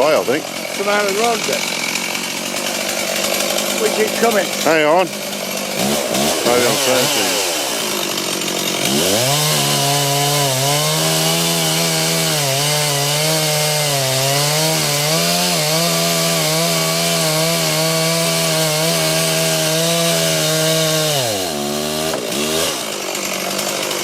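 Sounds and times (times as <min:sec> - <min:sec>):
chainsaw cutting tree trunk: 0:00.0 - 0:24.0.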